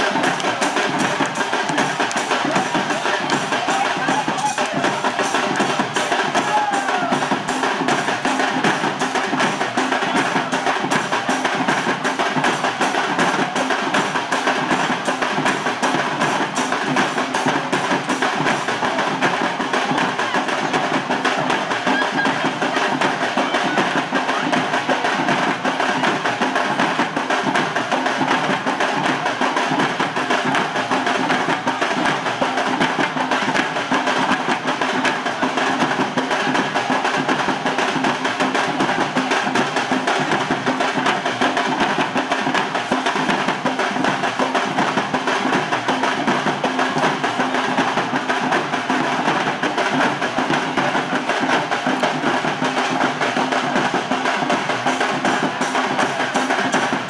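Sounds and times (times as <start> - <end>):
drums beaten in fast rhythm: 0.0 - 57.0.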